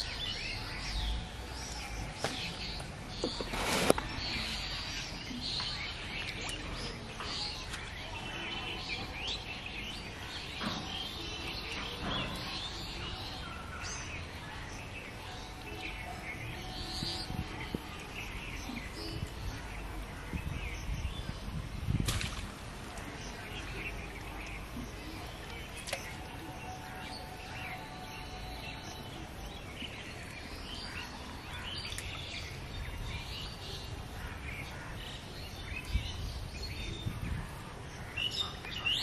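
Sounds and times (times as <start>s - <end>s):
birds chirping: 0.0s - 39.0s
low background noise: 0.0s - 39.0s.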